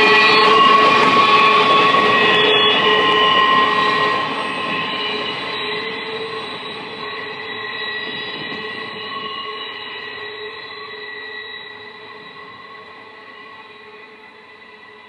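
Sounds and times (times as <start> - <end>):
train wheels rumbling: 0.0 - 15.0
train wheels squealing: 0.0 - 15.0.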